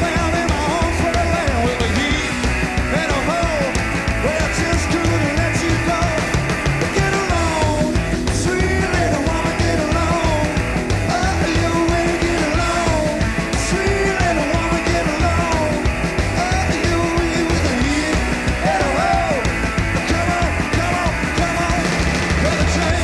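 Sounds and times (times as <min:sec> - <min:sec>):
rockabilly band playing live: 0:00.0 - 0:23.0.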